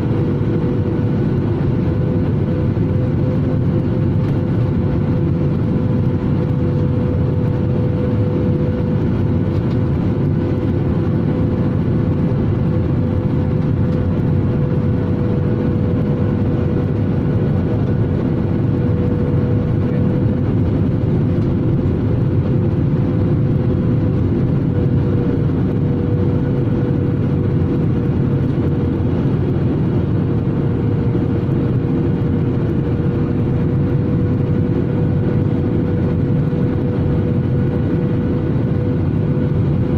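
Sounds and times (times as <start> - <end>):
airliner cabin rumble: 0.0 - 39.9
steady hum: 0.0 - 39.9.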